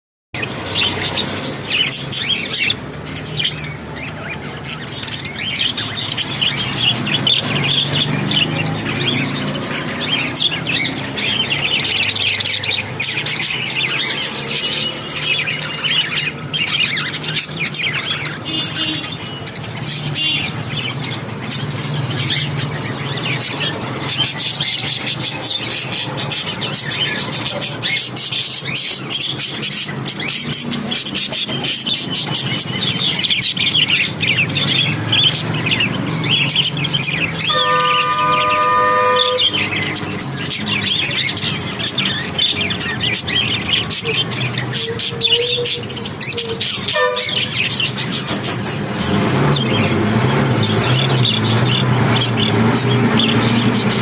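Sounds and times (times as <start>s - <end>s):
flock of lovebirds chirping: 0.4s - 54.0s.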